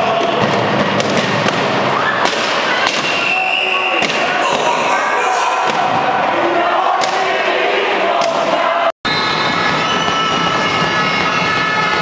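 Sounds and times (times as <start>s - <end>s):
crowd talking and shouting: 0.0s - 12.0s.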